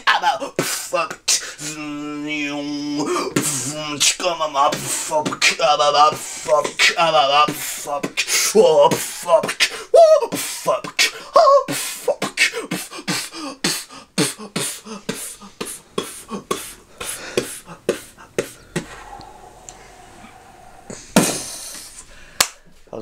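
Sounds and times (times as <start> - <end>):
man beatboxing: 0.0 - 19.8.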